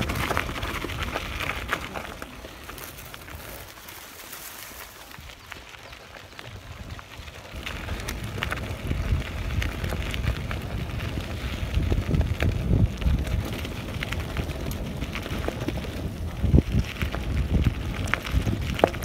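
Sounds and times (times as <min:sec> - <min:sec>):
bike rattling over bumps: 0:00.0 - 0:19.0
tyres crunching on gravel: 0:00.0 - 0:19.0
wind rumbling on microphone: 0:00.0 - 0:19.0.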